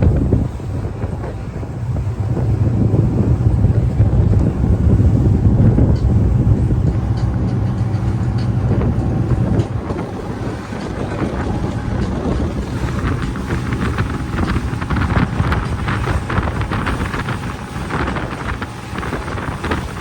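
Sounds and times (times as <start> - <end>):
boat engine drone: 0.0 - 20.0
rushing water: 0.0 - 20.0
wind buffeting microphone: 0.0 - 20.0.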